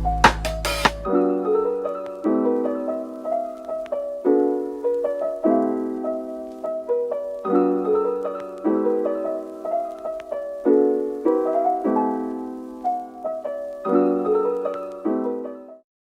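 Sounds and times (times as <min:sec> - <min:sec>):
gentle piano music: 0:00.0 - 0:15.8.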